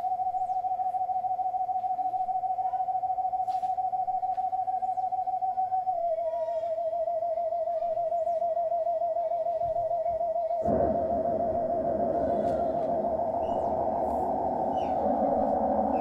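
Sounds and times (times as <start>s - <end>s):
sustained tone with vibrato: 0.0s - 16.0s.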